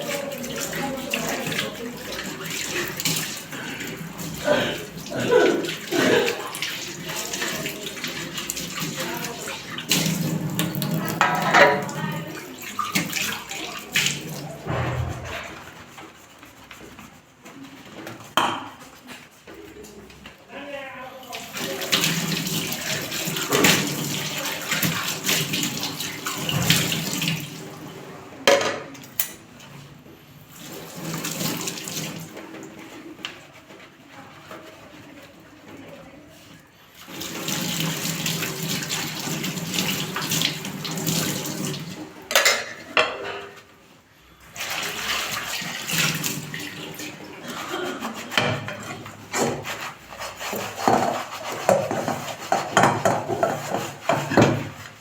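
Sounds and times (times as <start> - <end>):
tap water running into a sink: 0.0 - 16.2, 21.2 - 29.8, 30.4 - 43.7, 44.4 - 55.0.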